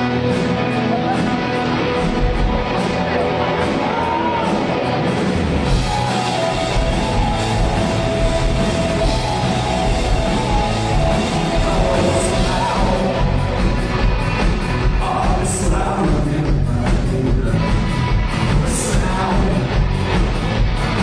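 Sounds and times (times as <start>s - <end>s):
drum kit: 0.0s - 21.0s
electric guitars: 0.0s - 21.0s.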